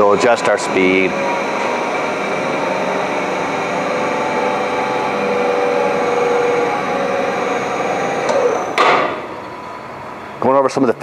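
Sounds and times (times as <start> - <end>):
electric motor hum and whine: 0.0 - 11.0.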